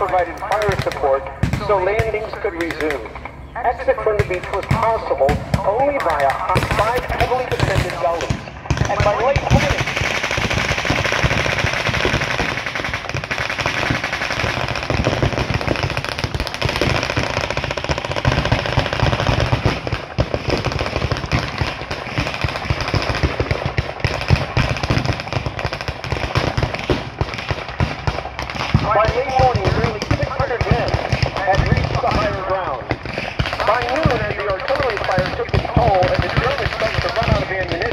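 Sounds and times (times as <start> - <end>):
machine-gun and rifle fire: 0.0 - 3.2, 4.0 - 37.9.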